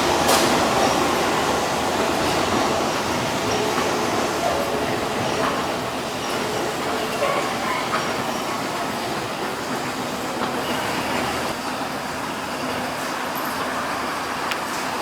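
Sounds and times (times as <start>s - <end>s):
electric train moving: 0.0s - 15.0s.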